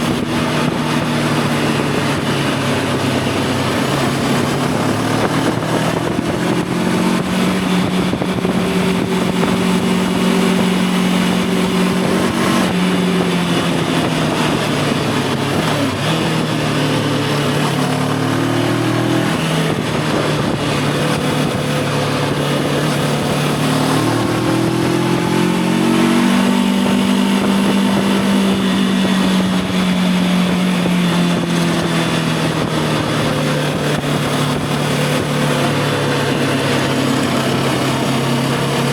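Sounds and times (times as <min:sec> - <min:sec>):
motorcycle engine running: 0:00.0 - 0:38.9
wind noise: 0:00.0 - 0:38.9.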